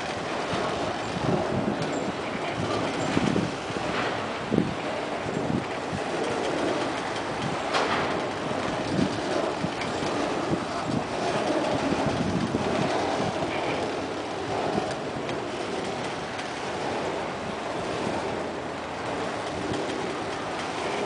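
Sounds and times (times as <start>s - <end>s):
train wheels rattling on rails: 0.0s - 21.0s
wheels clanking over rail joints: 0.0s - 21.0s.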